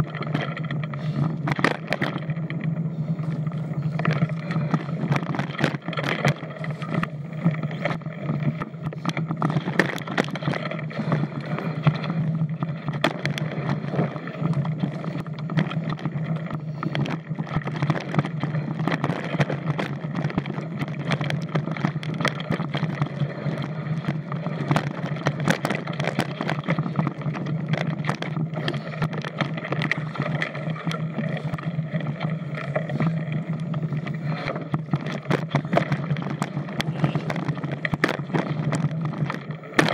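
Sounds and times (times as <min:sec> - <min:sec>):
bike rattling and clattering: 0:00.0 - 0:39.9.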